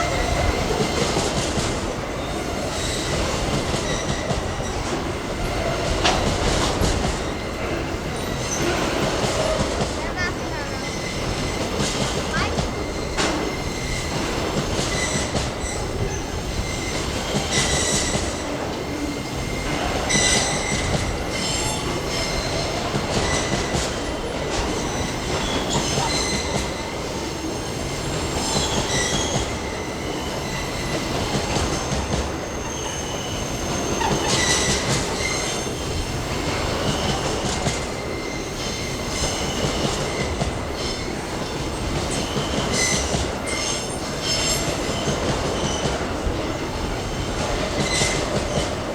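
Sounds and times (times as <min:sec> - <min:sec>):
steel wheels squealing: 0:00.0 - 0:48.8.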